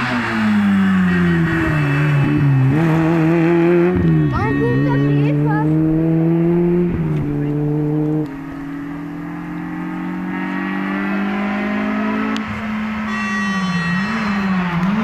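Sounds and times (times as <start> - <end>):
rally car engine at high revs: 0.0 - 13.1
rally car approaching: 0.0 - 15.0.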